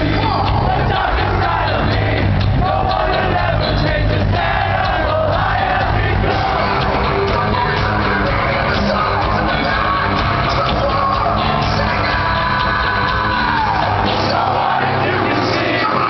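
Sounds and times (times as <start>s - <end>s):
man singing: 0.0s - 16.0s
rock band playing live: 0.0s - 16.0s.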